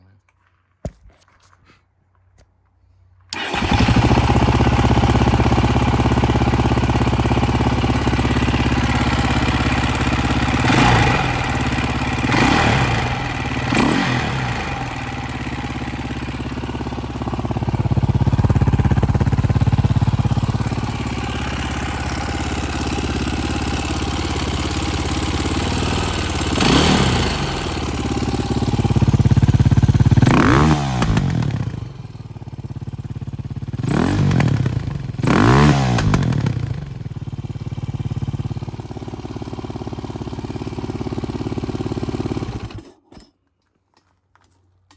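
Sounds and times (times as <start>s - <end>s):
motorcycle engine idling and revving: 3.3s - 43.0s.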